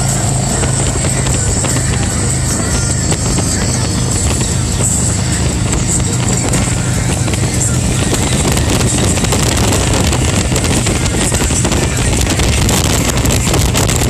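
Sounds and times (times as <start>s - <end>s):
motorcycle engine and tyre noise: 0.0s - 14.0s
wind buffeting microphone: 0.0s - 14.0s.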